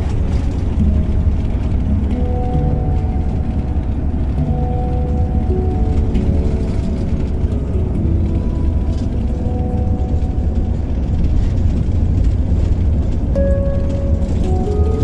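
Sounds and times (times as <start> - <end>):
coach engine rumble: 0.0 - 15.0
faint sustained music notes: 0.0 - 15.0
road noise: 0.0 - 15.0.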